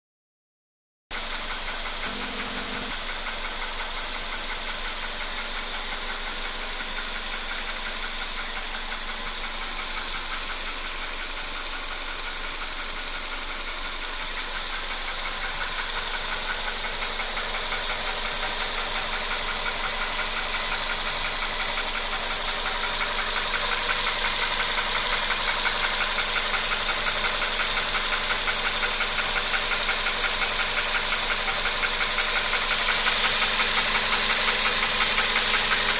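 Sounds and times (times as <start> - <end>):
car engine knocking: 1.2 - 35.9.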